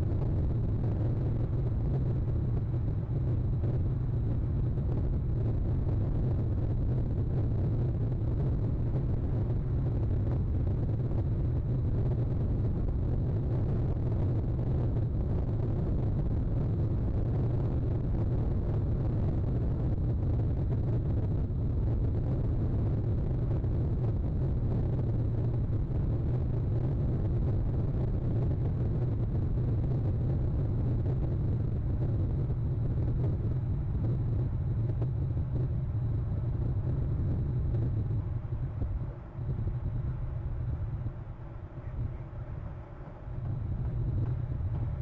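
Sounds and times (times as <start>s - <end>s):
steady low rumbling: 0.0s - 45.0s.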